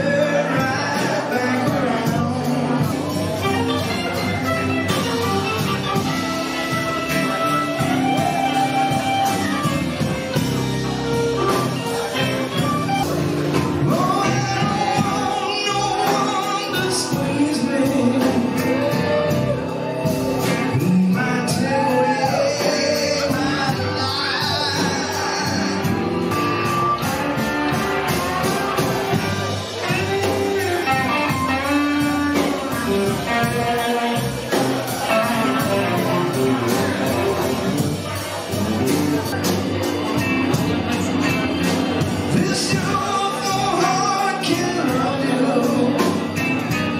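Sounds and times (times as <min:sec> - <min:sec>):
bass: 0:00.0 - 0:46.9
lead guitar melody: 0:00.0 - 0:46.9
live band playing: 0:00.0 - 0:46.9
person singing: 0:00.0 - 0:46.9.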